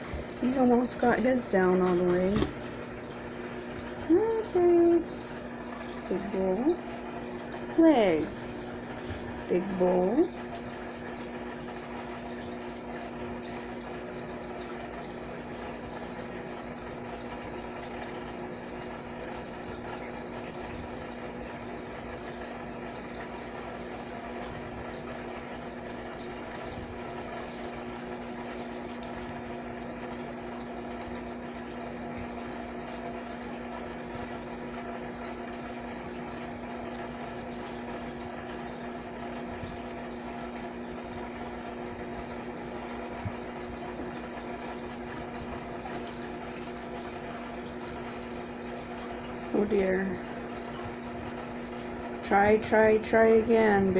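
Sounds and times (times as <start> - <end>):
water bubbling: 0.0 - 52.2
water pump humming: 0.0 - 53.9.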